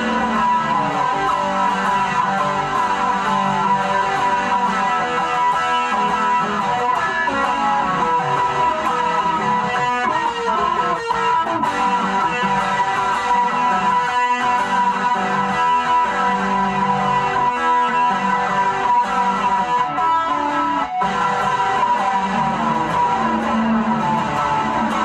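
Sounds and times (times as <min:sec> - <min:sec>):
guitar plucked notes: 0:00.0 - 0:25.0.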